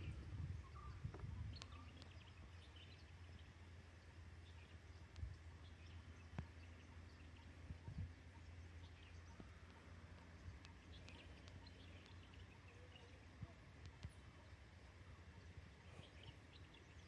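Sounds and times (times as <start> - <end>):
faint bird chirps: 0.0 - 17.0
low steady hum: 0.0 - 17.0.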